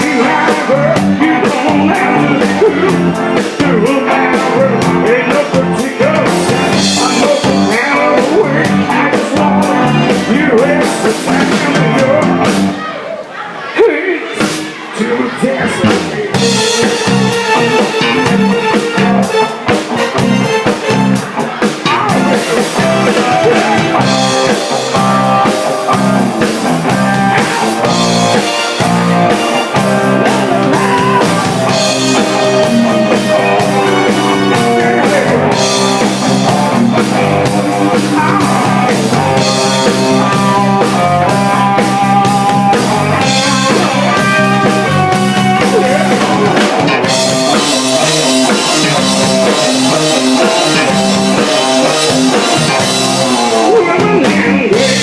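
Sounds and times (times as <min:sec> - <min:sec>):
drum kit: 0:00.0 - 0:12.8, 0:14.3 - 0:14.9, 0:15.7 - 0:55.0
electric guitar: 0:00.0 - 0:12.9, 0:15.8 - 0:55.0
live rock band playing: 0:00.0 - 0:13.0, 0:14.2 - 0:55.0.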